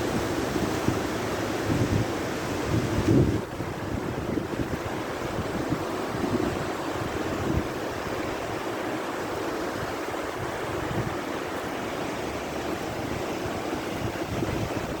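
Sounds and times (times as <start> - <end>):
waterfall rushing: 0.0 - 15.0
wind on microphone: 0.0 - 15.0.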